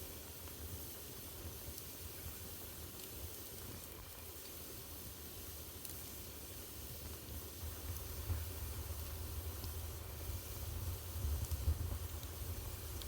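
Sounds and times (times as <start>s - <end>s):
low rumble of fire: 0.0s - 13.0s.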